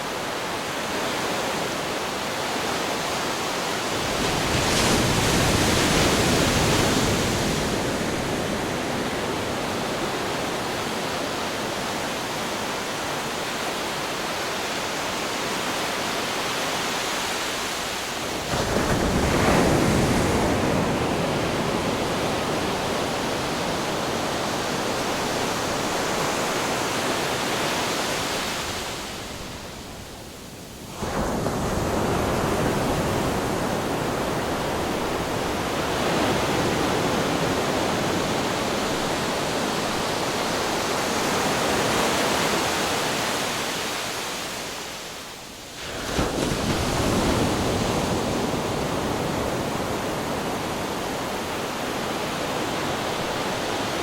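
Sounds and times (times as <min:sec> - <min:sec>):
ocean waves crashing on rocks: 0:00.0 - 0:30.0, 0:30.9 - 0:54.0.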